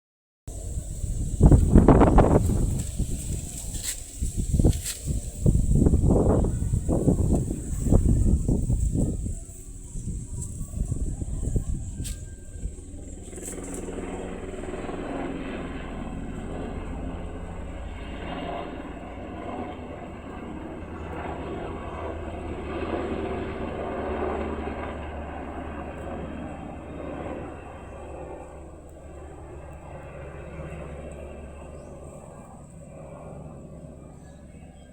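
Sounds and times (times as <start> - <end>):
helicopter flying past: 0.5 - 34.9.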